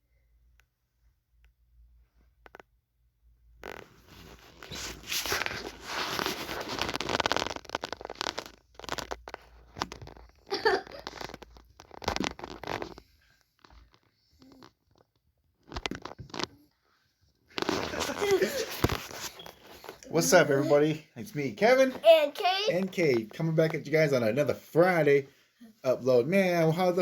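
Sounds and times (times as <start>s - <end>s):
rustling and crinkling: 3.6s - 25.4s.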